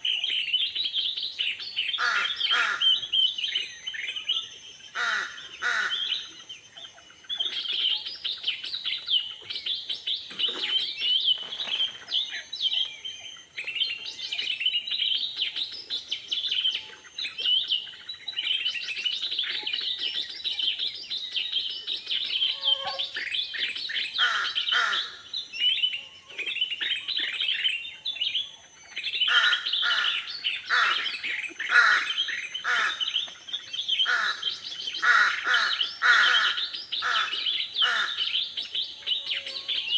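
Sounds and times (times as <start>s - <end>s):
lower descending bird calls: 0.0s - 39.9s
wild birds chirping: 0.0s - 39.9s.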